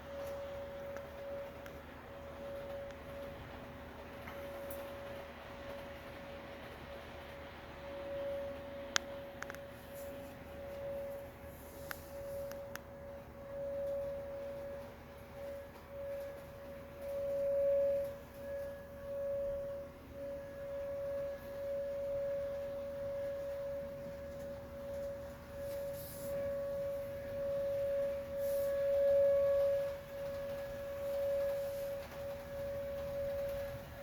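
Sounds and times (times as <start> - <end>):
tornado warning siren: 0.0 - 34.0.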